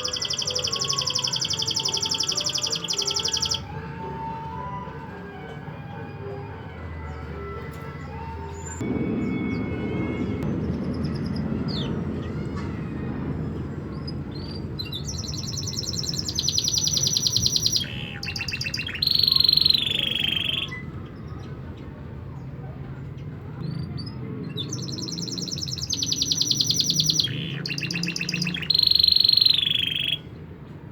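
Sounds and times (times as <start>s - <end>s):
canaries singing trills: 0.0s - 4.7s, 10.4s - 30.4s.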